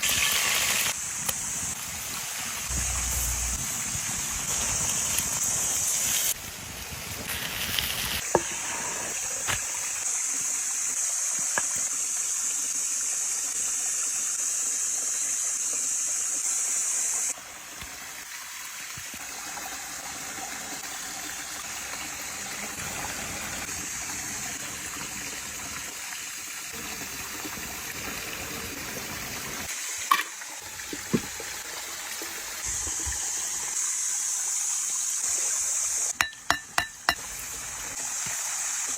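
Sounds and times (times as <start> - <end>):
food sizzling over campfire: 0.0 - 38.9.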